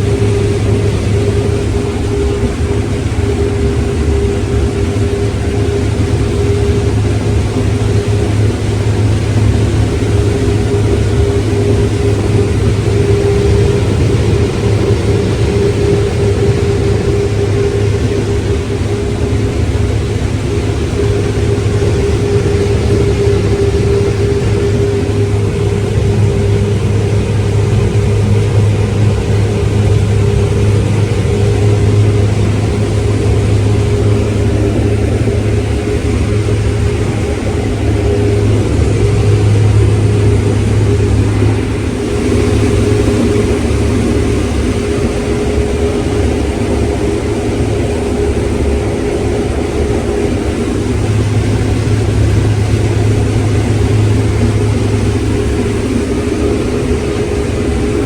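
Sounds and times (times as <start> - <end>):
heavy machinery engine drone: 0.0 - 58.0.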